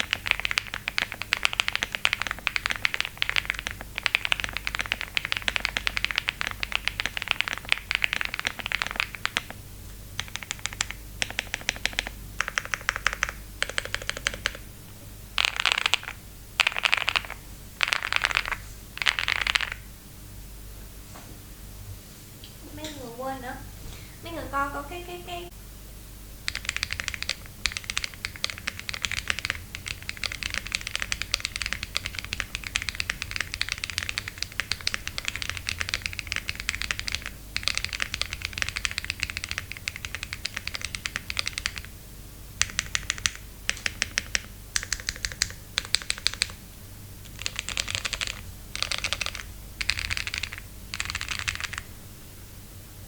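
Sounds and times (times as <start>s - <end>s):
mechanical keyboard typing: 0.0s - 9.6s, 10.2s - 14.7s, 15.4s - 19.8s, 26.4s - 41.9s, 42.6s - 46.6s, 47.3s - 51.9s.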